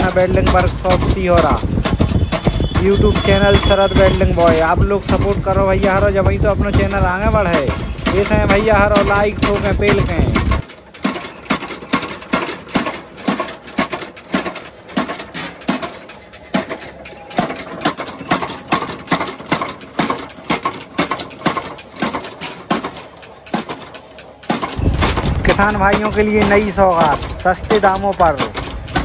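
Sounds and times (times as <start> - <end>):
power hammer striking metal: 0.0 - 29.0.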